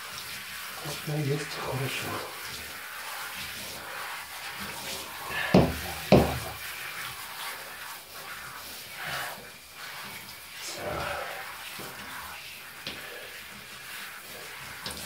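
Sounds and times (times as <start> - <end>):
shower water spraying: 0.0 - 15.0.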